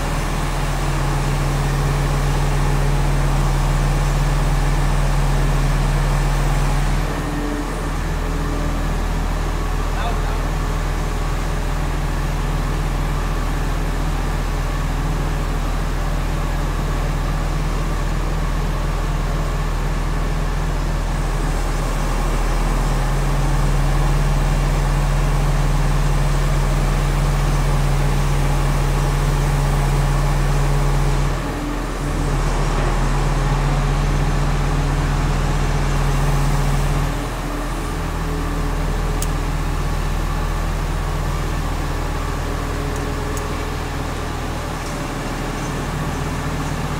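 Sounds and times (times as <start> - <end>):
crane low mechanical drone: 0.0 - 46.9.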